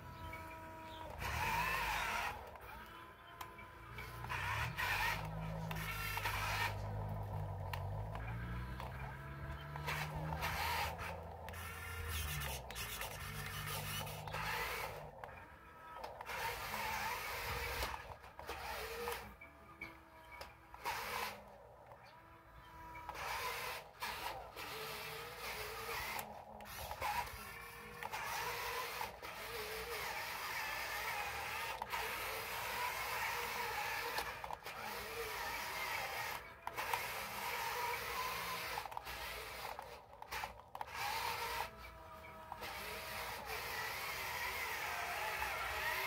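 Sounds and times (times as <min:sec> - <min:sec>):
toy electric motors whirring: 0:00.0 - 0:46.0.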